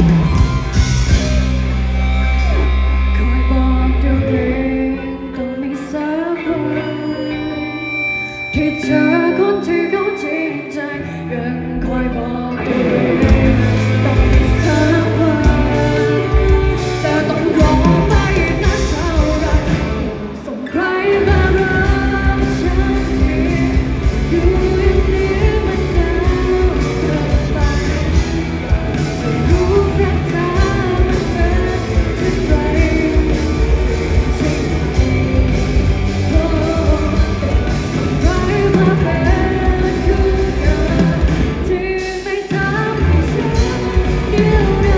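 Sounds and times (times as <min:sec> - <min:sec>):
live rock band playing: 0:00.0 - 0:11.2, 0:11.9 - 0:44.9
person singing: 0:00.0 - 0:44.9.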